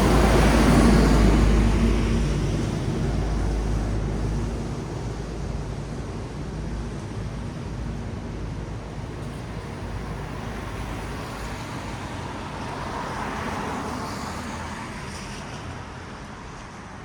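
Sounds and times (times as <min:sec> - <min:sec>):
traffic rumble: 0:00.0 - 0:17.0
tyres hissing on wet road: 0:00.0 - 0:17.0.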